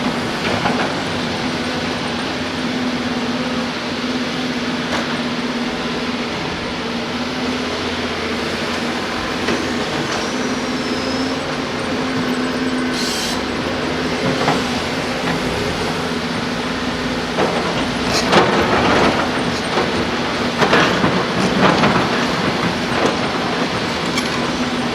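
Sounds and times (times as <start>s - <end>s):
heavy diesel machinery engine drone: 0.0s - 24.9s.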